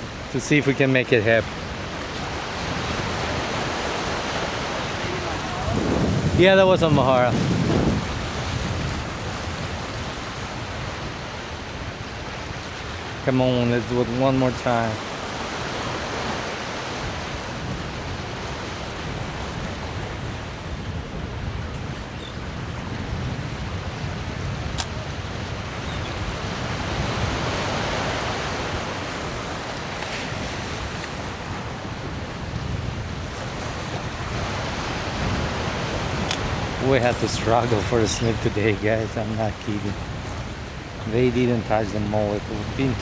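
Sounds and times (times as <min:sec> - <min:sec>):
wind buffeting microphone: 0:00.0 - 0:13.3, 0:14.5 - 0:43.0
ocean surf: 0:00.0 - 0:43.0.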